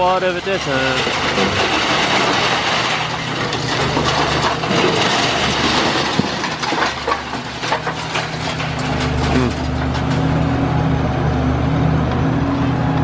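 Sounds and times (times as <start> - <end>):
debris crunching and clattering: 0.0 - 10.6
diesel engine running: 0.0 - 13.0.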